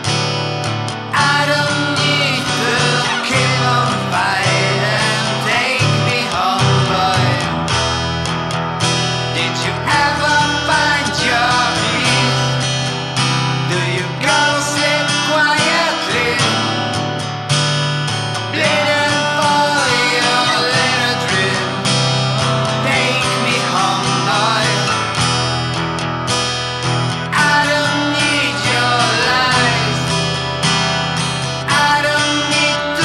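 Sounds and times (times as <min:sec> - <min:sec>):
strummed acoustic guitar: 0:00.0 - 0:33.0.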